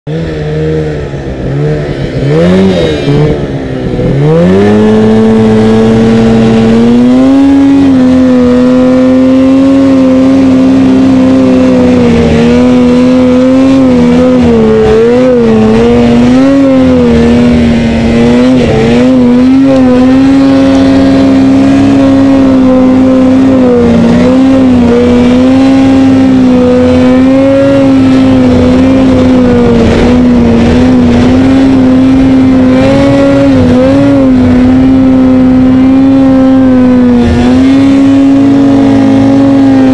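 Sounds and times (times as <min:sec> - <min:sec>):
snowmobile engine revving: 0:00.1 - 0:39.9.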